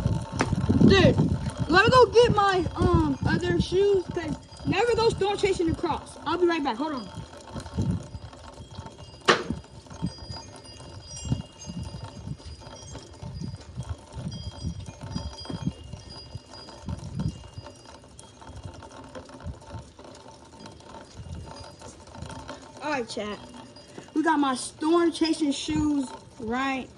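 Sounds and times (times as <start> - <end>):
wind chimes tinkling: 0.8 - 26.9.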